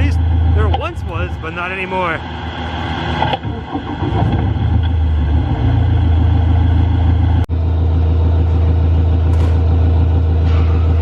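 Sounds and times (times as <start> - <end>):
low motor drone: 0.0 - 11.0.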